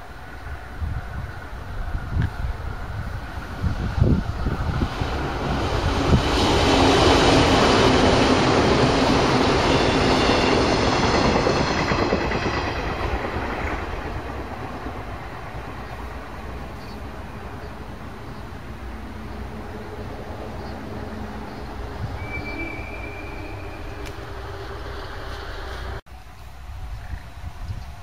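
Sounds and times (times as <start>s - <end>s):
electric train running past: 0.0s - 26.0s.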